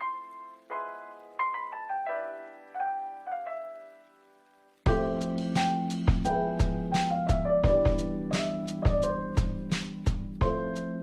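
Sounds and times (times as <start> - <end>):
slow piano notes: 0.0 - 11.0.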